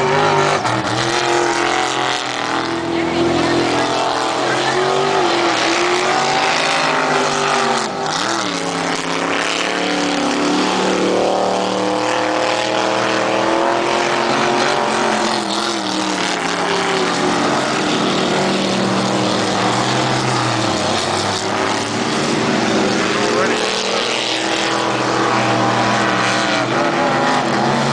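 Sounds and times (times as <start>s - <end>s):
powerboat engines racing: 0.0s - 27.9s.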